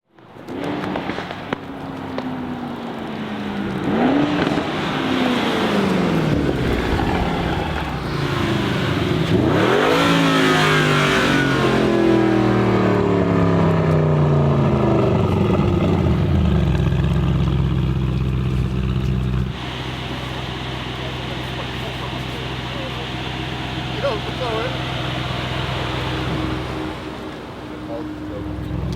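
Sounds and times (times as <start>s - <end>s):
car engine revving and accelerating: 0.4s - 28.9s.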